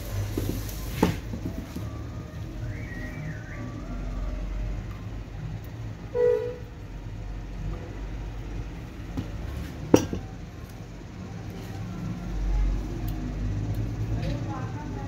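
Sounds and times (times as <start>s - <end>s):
low rumble of passing traffic: 0.0s - 15.0s.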